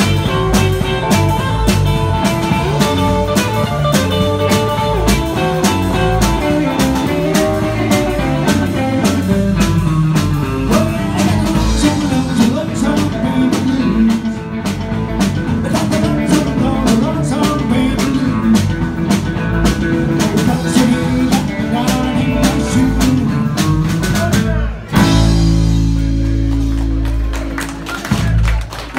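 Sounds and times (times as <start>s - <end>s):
bass guitar: 0.0s - 28.9s
drum kit beat: 0.0s - 28.9s
electric guitar lead: 0.0s - 28.9s.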